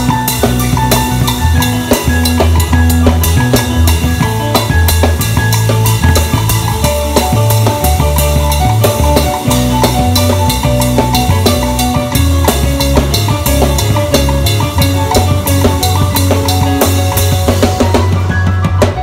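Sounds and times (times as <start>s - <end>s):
drum kit played hard: 0.0s - 19.0s
live band music: 0.0s - 19.0s.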